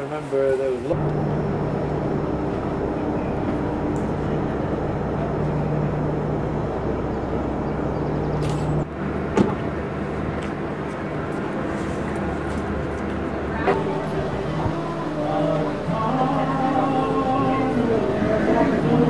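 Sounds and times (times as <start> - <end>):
outdoor background: 0.0 - 19.0
engine hum with rushing: 0.9 - 19.0.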